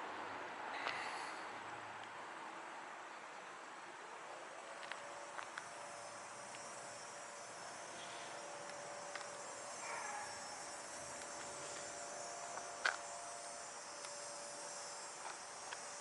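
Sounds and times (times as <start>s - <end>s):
faint steady hum: 0.0s - 16.0s
crickets and insects chirping: 0.4s - 16.0s.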